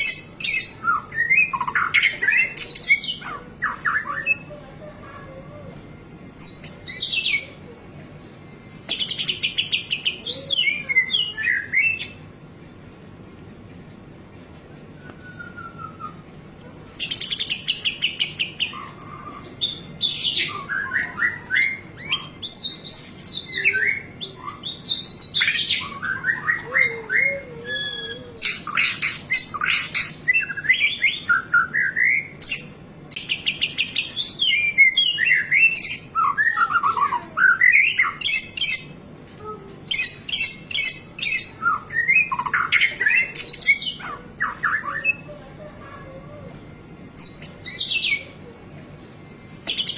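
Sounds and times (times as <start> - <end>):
bird singing varied song: 0.0 - 12.4, 14.8 - 49.9.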